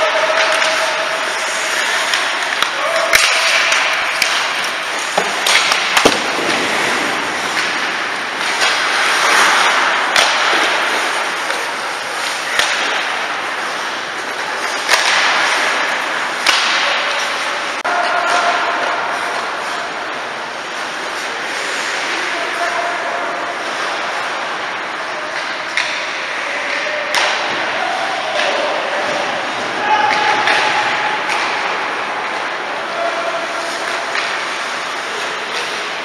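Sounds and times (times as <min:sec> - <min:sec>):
skates scraping on ice: 0:00.0 - 0:26.2, 0:28.6 - 0:36.0
hockey sticks and puck clacking: 0:00.0 - 0:36.0.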